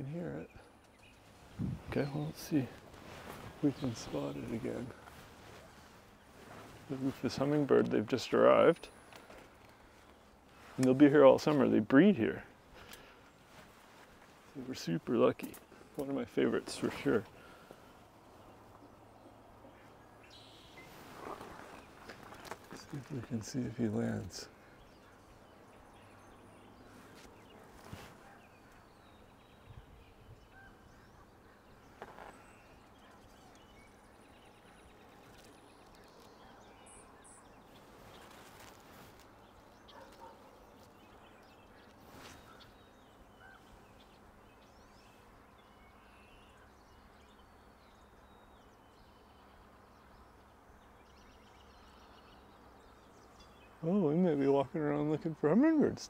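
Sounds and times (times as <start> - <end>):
distant bird chirps: 0.0 - 56.0.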